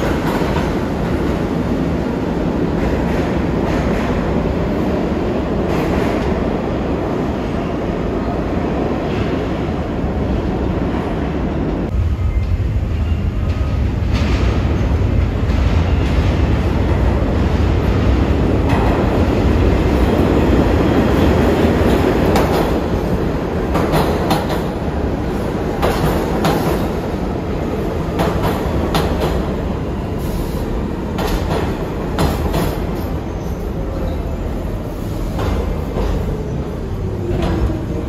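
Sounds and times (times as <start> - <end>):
subway train low rumble: 0.0 - 38.0.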